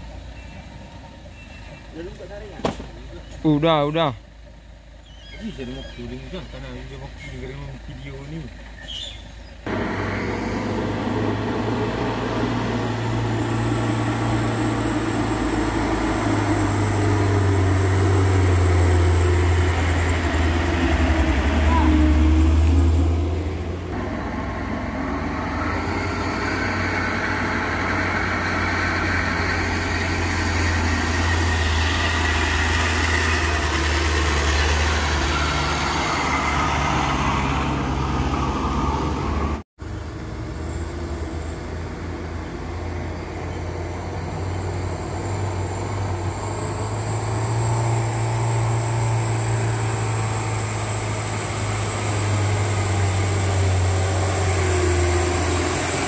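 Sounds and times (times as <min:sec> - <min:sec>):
truck engines pulling uphill: 0:00.0 - 0:56.0.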